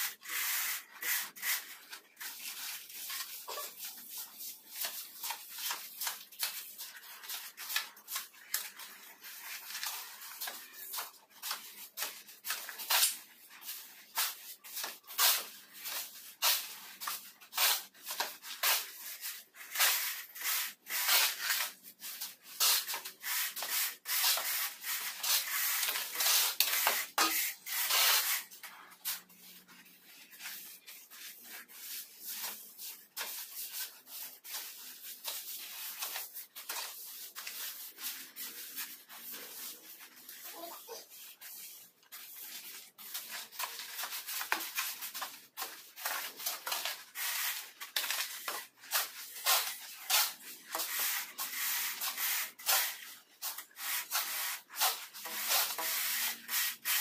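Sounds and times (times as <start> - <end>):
tools scraping mortar on floor: 0.0 - 13.2, 13.8 - 57.0.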